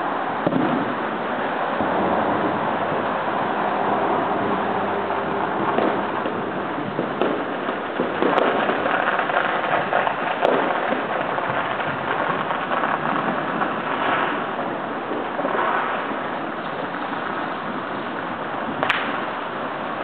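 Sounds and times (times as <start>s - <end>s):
firecrackers crackling: 0.0s - 20.0s
sharp firecracker bangs: 0.0s - 20.0s.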